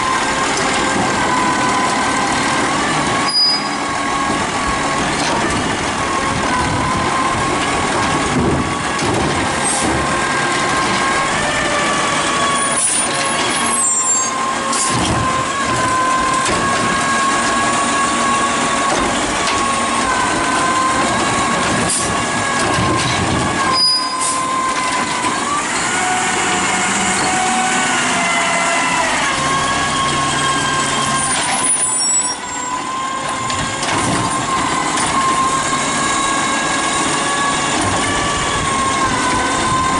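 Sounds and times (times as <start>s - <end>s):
garbage truck engine: 0.0s - 39.9s
hydraulic pump whine: 0.0s - 39.9s.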